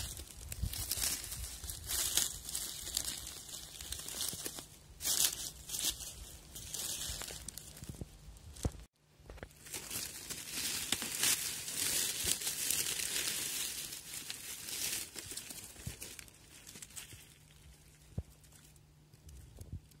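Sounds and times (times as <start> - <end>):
dry leaves rustling and crackling: 0.0 - 19.6.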